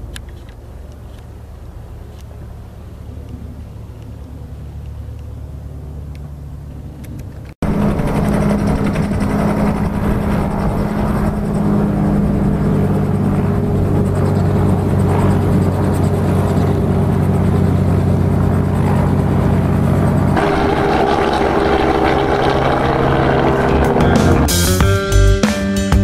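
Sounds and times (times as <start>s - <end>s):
helicopter rotor drone: 0.0s - 24.8s
airplane engine running: 0.0s - 26.0s.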